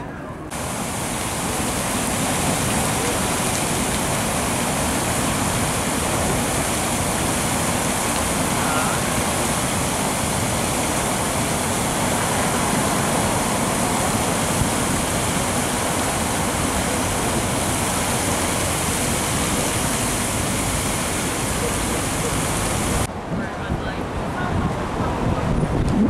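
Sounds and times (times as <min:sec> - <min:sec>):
fountain water splashing: 0:00.5 - 0:25.7.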